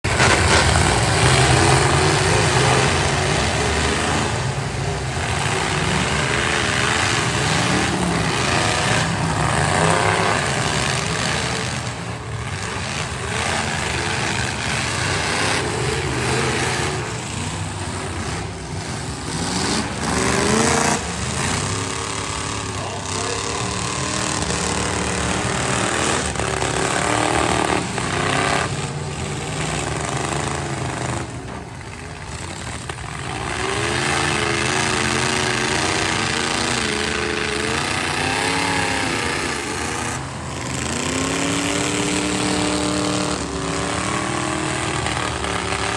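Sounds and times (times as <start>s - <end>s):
truck engines revving: 0.0s - 45.9s.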